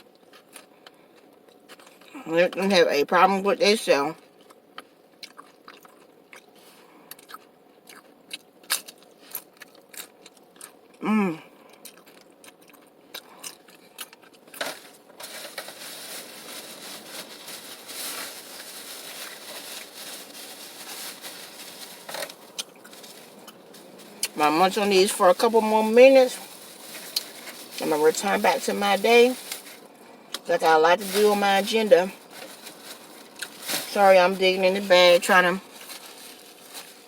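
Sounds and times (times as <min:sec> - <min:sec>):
crunching tortilla chips: 0:04.3 - 0:37.0.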